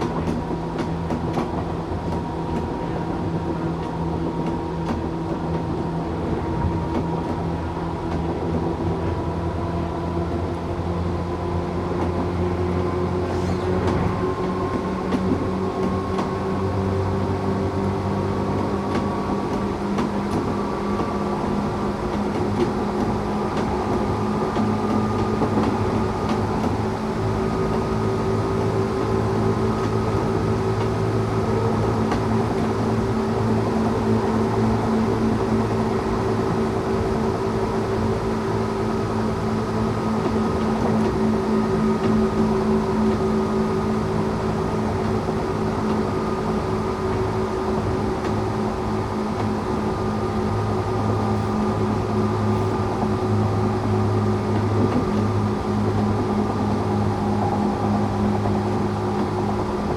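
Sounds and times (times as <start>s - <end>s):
train motor hum: 0.0s - 59.9s
wheels rumbling on rail: 0.0s - 59.9s.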